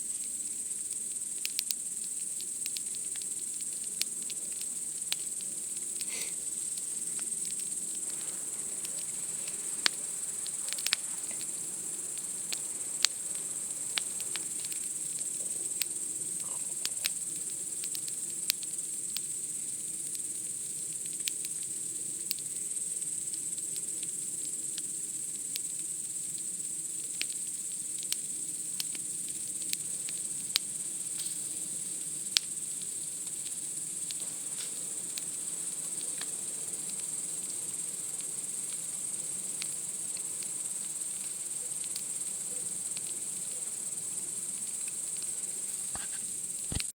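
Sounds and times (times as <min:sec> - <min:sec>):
campfire crackling and popping: 0:00.0 - 0:46.9
night insects chirring: 0:00.0 - 0:46.9.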